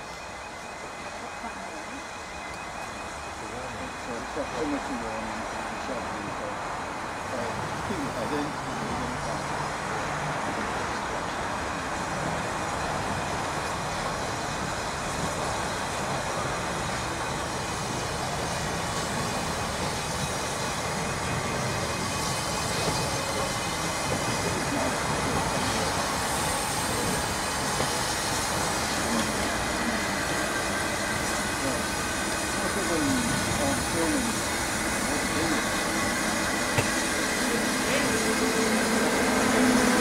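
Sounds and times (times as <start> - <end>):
steam locomotive moving: 0.0 - 40.0.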